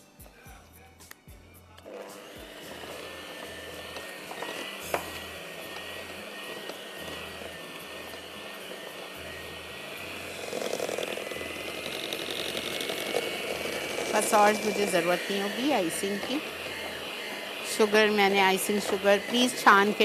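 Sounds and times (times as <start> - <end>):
electric mixer whirring: 1.8 - 20.0.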